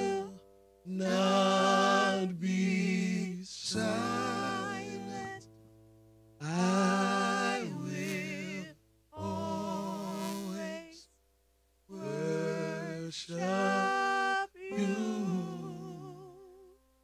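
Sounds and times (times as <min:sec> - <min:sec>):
man singing worship song: 0:00.0 - 0:05.4, 0:06.4 - 0:11.1, 0:11.9 - 0:16.5.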